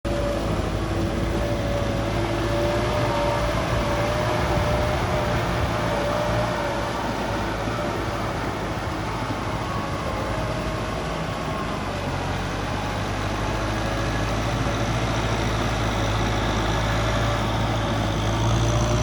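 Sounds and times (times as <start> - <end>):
tractor diesel engine running: 0.0 - 19.0
rotary tiller whine: 0.1 - 19.0.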